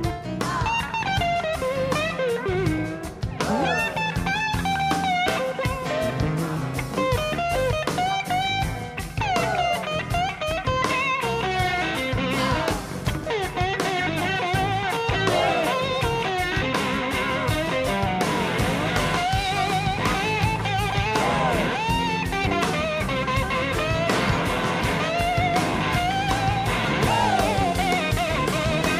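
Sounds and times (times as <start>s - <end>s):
live rock blues band: 0.0s - 28.9s
electric guitar solo: 0.6s - 28.9s.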